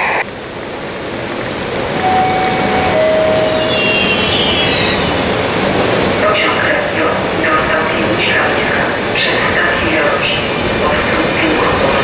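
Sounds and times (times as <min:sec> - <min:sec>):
train rumbling into platform: 0:00.0 - 0:12.0.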